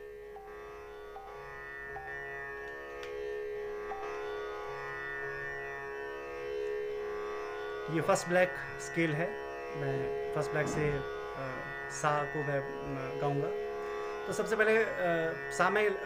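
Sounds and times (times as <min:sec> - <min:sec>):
ringing drone of overtones: 0:00.0 - 0:08.0, 0:08.6 - 0:16.0
tanpura strings plucked: 0:00.0 - 0:16.0.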